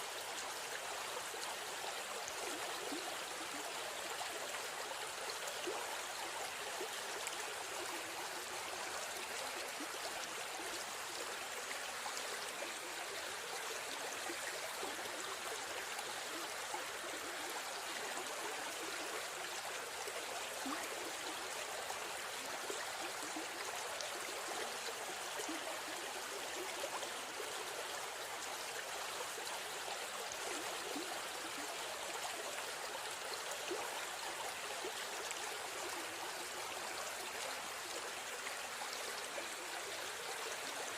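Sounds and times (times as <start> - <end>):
river stream flowing: 0.0 - 40.9.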